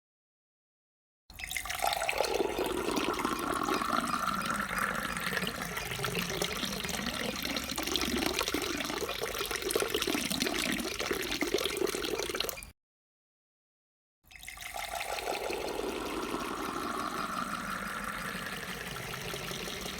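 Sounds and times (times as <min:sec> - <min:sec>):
water pouring into a glass: 0:01.3 - 0:12.7, 0:14.3 - 0:19.9.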